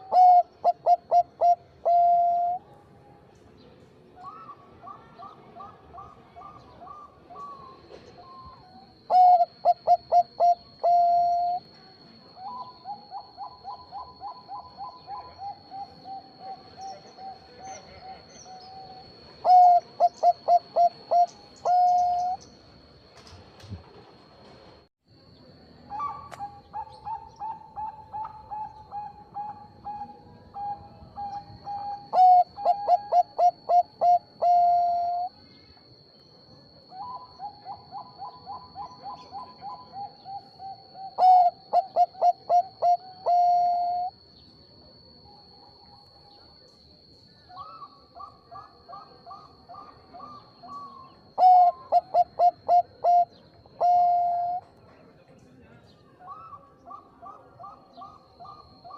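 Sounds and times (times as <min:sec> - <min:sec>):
dove singing coos: 0:00.0 - 0:02.7, 0:04.2 - 0:22.5, 0:25.9 - 0:35.4, 0:36.8 - 0:45.4, 0:47.4 - 0:54.7, 0:56.2 - 0:58.9
faint high whine: 0:00.0 - 0:58.9.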